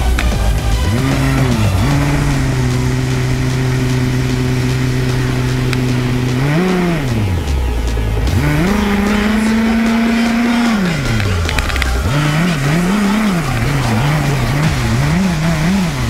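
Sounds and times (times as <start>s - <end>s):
small two-stroke engine revving: 0.0s - 16.0s.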